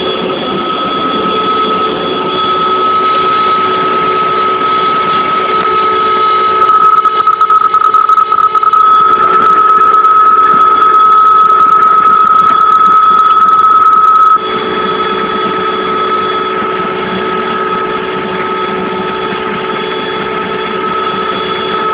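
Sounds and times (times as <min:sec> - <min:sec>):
helicopter turbine whine: 0:00.0 - 0:21.9.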